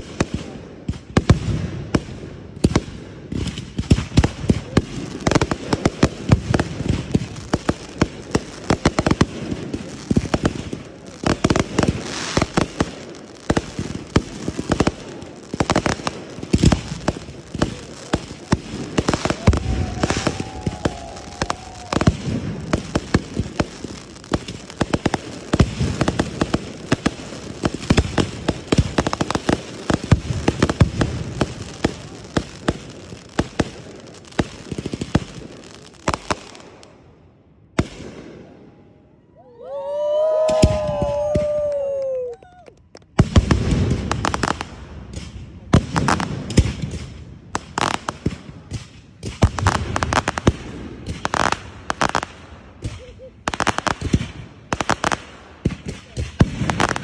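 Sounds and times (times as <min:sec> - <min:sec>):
deep fireworks booms: 0:00.0 - 0:38.9, 0:39.8 - 0:42.3, 0:42.9 - 0:57.0
fireworks bangs and crackles: 0:00.0 - 0:39.0, 0:39.7 - 0:57.0.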